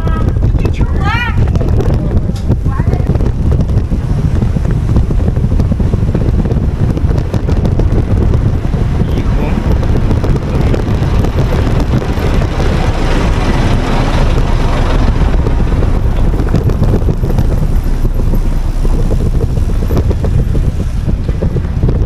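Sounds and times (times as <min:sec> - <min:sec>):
bicycle road noise: 0:00.0 - 0:22.0
wind rumbling on microphone: 0:00.0 - 0:22.0.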